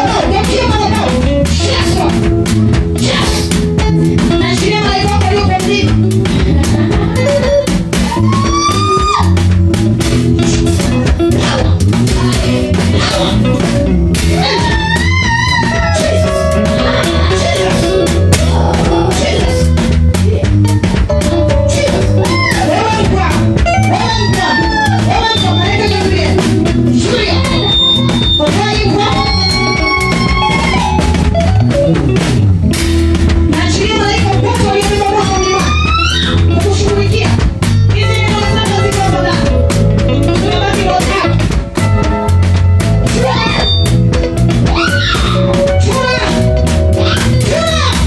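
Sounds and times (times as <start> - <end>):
live band music: 0.0 - 48.0.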